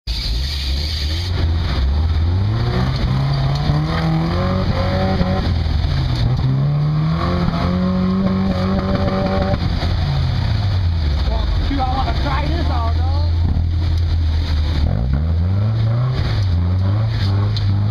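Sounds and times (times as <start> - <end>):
truck engine revving: 0.1 - 17.9.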